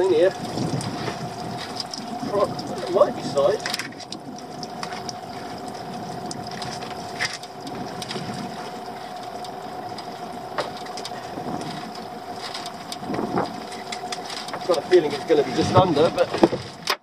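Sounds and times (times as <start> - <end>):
outboard engine idling: 0.0 - 17.0.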